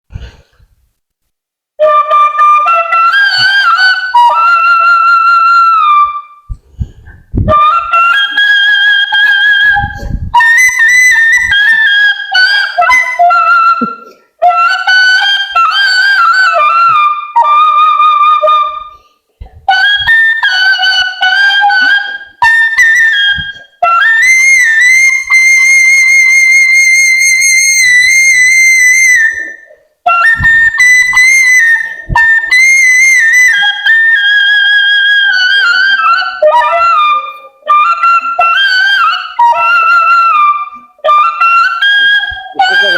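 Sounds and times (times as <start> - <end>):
bamboo flute melody: 1.8 - 42.9.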